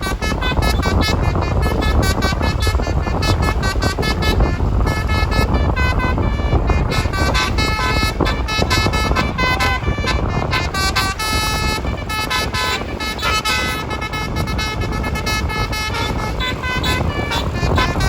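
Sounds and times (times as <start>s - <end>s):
bus engine rumbling: 0.0s - 18.0s
bus horn playing fast tune: 0.0s - 18.0s.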